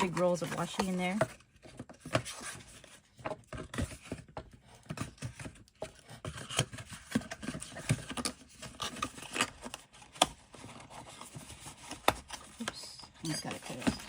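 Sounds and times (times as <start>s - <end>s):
paper packaging rustling: 0.0s - 14.0s.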